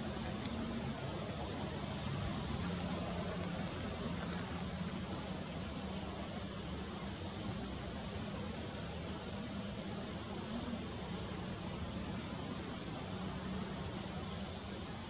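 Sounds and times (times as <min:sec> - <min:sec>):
distant traffic hum: 0:00.0 - 0:15.0
insects calling: 0:00.0 - 0:15.0.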